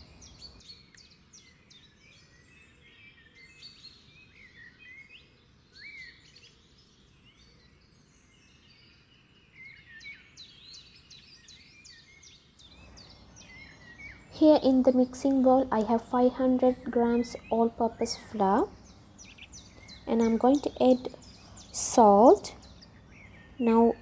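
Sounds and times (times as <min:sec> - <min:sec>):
low background hiss: 0:00.0 - 0:24.0
small birds chirping: 0:00.0 - 0:24.0.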